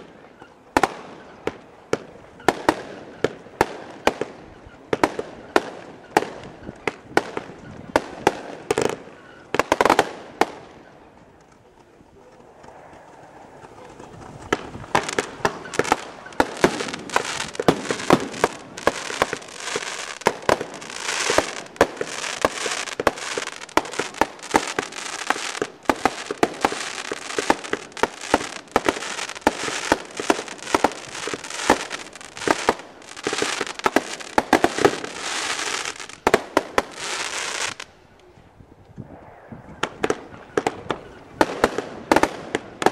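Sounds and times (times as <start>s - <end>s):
fireworks bangs and bursts: 0.7s - 10.8s, 14.4s - 37.9s, 39.8s - 42.9s.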